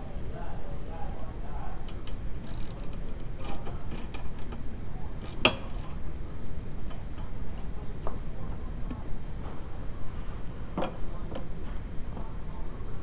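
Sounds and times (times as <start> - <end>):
steady low background hum: 0.0 - 13.0.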